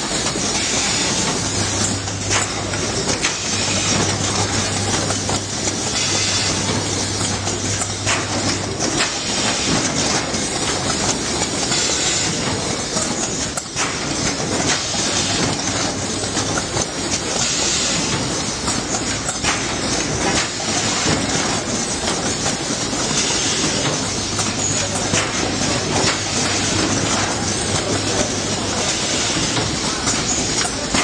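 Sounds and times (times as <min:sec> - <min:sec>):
machine clicking and clattering: 0:00.0 - 0:31.0.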